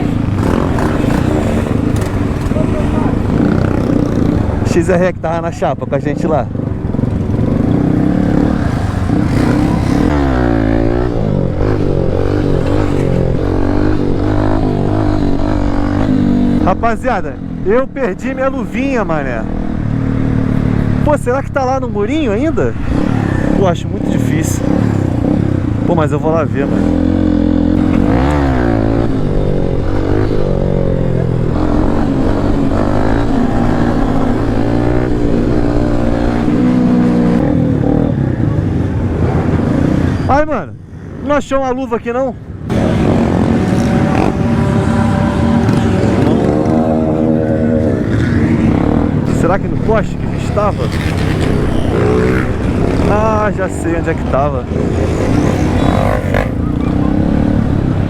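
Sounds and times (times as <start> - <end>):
motorcycle engine revving: 0.0 - 5.0, 6.0 - 40.4, 42.5 - 58.0.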